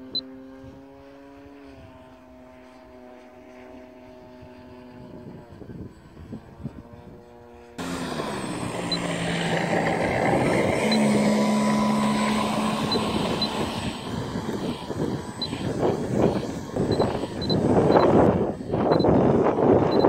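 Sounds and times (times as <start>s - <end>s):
model plane propeller whirring: 0.0s - 20.0s.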